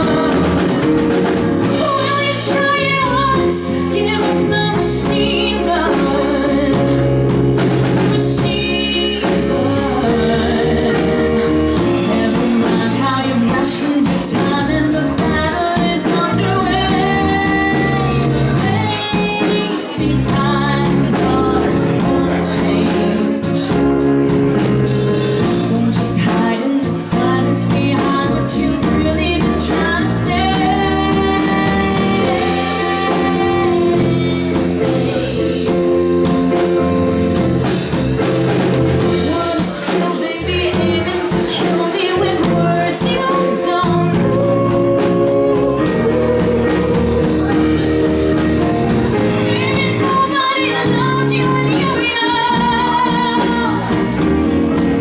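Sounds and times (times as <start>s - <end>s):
woman singing: 0.0s - 38.3s, 39.0s - 55.0s
bass guitar: 0.0s - 55.0s
drum kit: 0.0s - 55.0s
keyboards: 0.0s - 55.0s.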